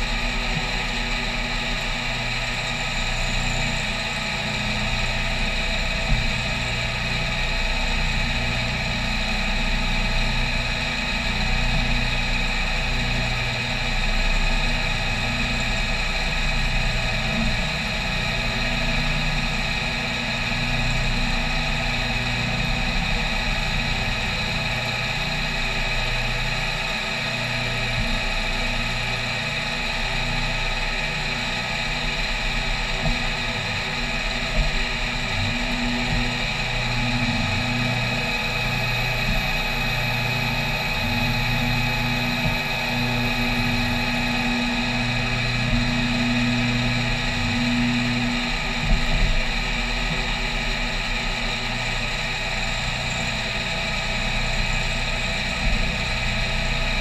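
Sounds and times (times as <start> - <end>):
milling machine cutting metal: 0.0 - 57.0.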